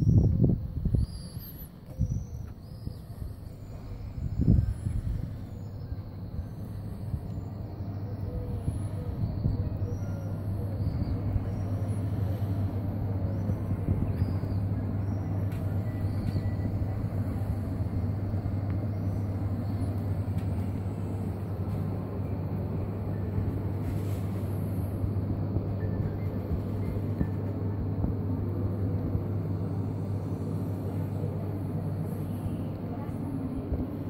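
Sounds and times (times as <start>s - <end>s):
refrigeration compressors humming: 0.1s - 34.0s.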